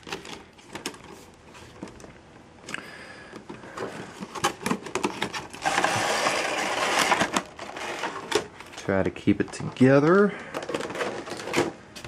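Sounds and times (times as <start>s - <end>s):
cardboard and plastic packaging handled: 0.0s - 12.0s.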